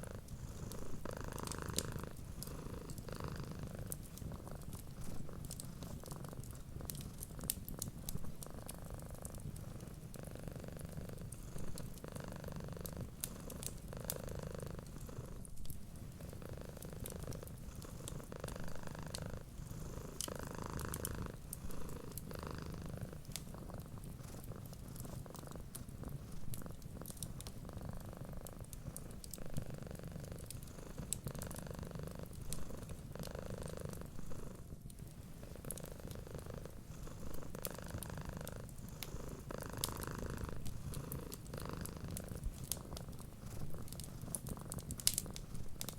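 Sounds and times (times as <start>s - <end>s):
cat purring: 0.0s - 45.9s
wood fire crackling and popping: 0.0s - 45.9s.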